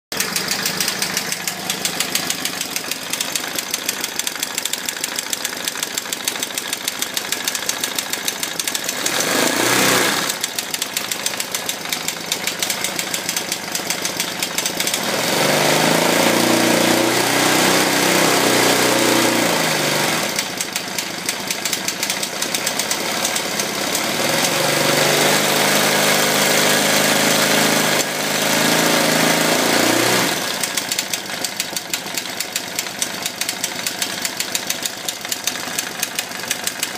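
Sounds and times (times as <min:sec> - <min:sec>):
motorcycle engine idling and revving: 0:00.1 - 0:36.9.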